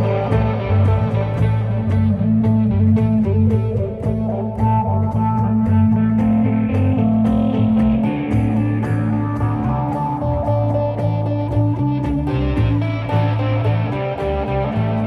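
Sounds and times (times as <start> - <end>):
bass line: 0.0 - 15.0
guitars: 0.0 - 15.0.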